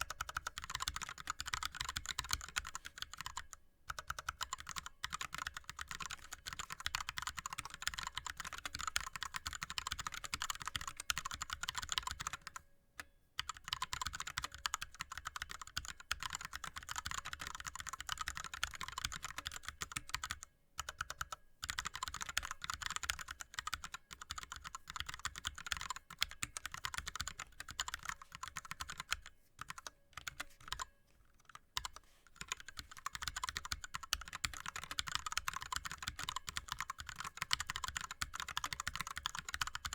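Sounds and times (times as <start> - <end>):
fast typing on keyboard: 0.0 - 12.6, 13.4 - 30.9, 31.5 - 39.9.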